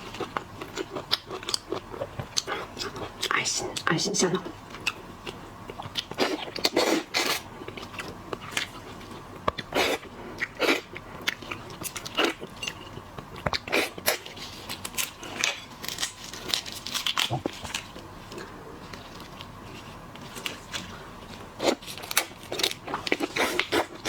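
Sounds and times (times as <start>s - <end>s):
person chewing and crunching: 0.0s - 3.3s, 4.7s - 24.0s.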